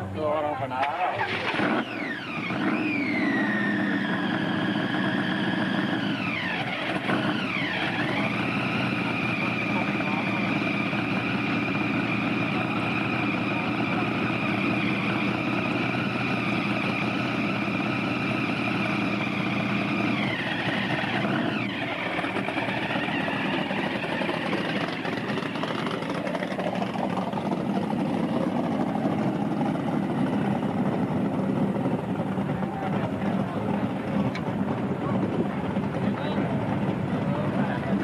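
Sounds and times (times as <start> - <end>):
car engine idling: 0.0 - 38.0
supercharger whine: 0.0 - 38.0.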